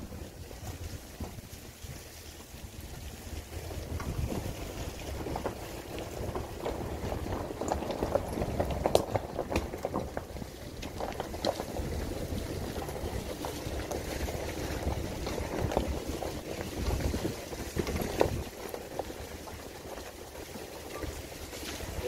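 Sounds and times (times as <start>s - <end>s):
car engine and tyres rumbling: 0.0s - 22.0s.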